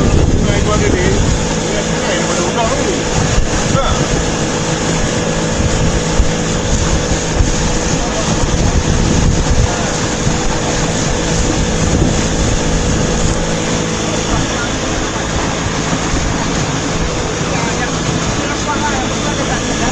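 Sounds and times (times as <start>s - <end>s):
boat engine running: 0.0s - 19.9s
wind noise on microphone: 0.0s - 19.9s.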